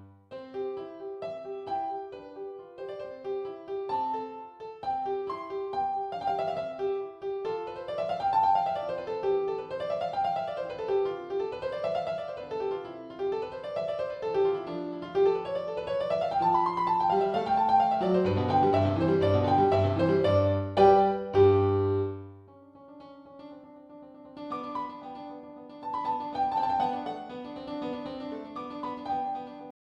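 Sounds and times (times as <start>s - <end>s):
piano arpeggios: 0.0s - 29.7s.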